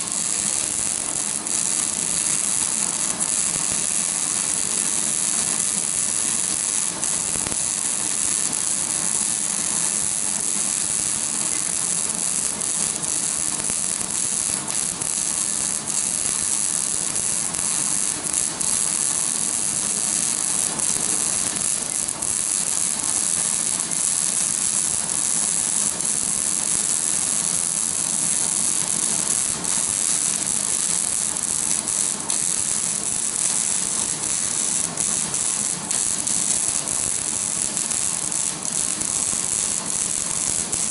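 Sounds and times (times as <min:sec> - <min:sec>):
welding arc crackling hiss: 0:00.0 - 0:40.9.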